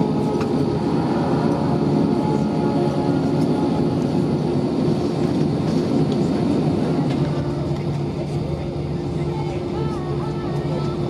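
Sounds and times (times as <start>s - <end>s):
jet engine hum in cabin: 0.0s - 11.0s.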